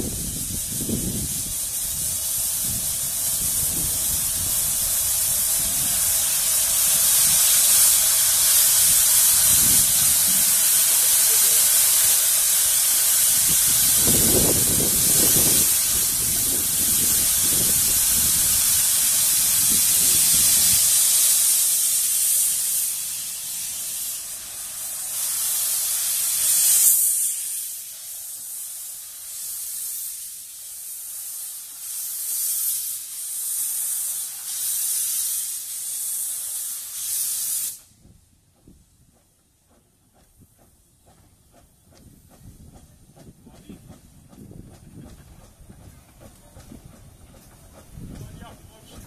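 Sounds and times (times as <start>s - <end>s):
steam engine puffing: 0.0s - 49.0s
steam locomotive hissing: 0.0s - 49.0s.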